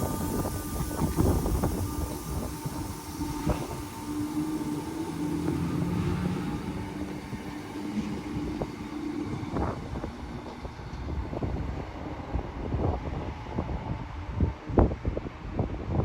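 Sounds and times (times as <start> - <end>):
train rumbling: 0.0 - 16.0
wind buffeting microphone: 0.0 - 16.0.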